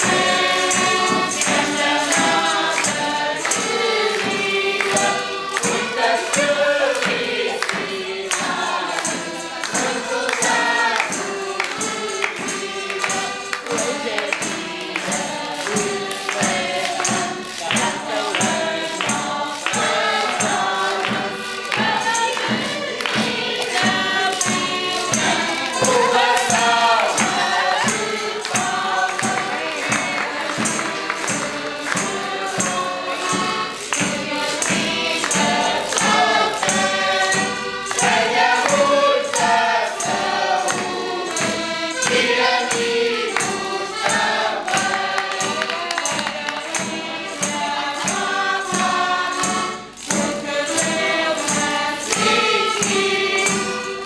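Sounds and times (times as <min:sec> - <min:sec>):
folk group singing in chorus: 0:00.0 - 0:54.0
hand percussion: 0:00.0 - 0:54.0
people clapping along: 0:00.0 - 0:54.0.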